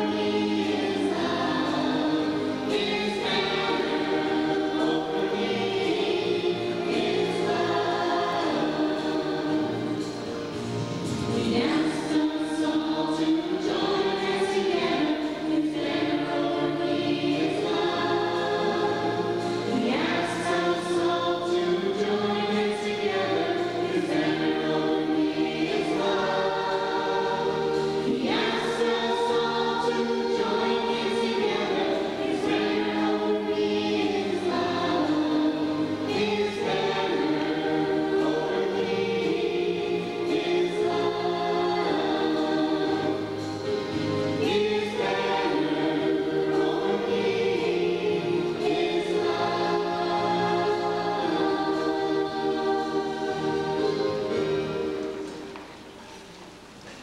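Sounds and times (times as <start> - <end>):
children singing a hymn: 0.0 - 56.8.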